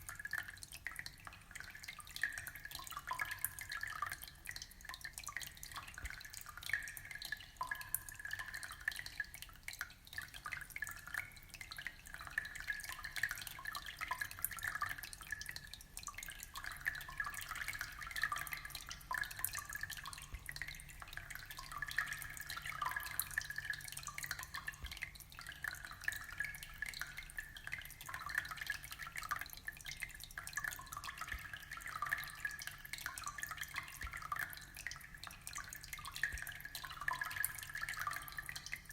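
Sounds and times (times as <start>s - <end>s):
water trickling and bubbling: 0.0s - 38.9s.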